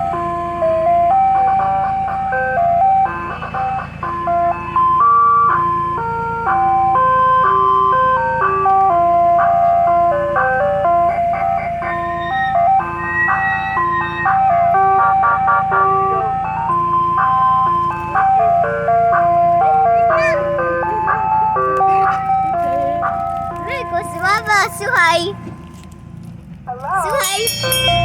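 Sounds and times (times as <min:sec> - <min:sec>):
ice cream truck chime melody: 0:00.0 - 0:28.0
truck idling hum: 0:00.0 - 0:28.0.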